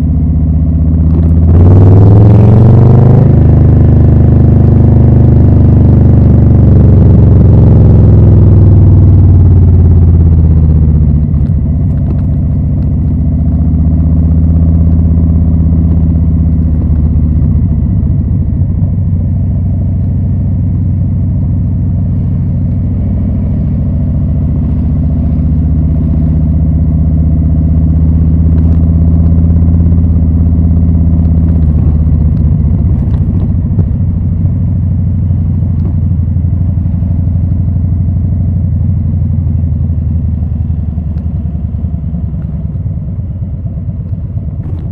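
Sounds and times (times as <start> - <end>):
motorcycle engine deep exhaust: 0.0 - 44.9.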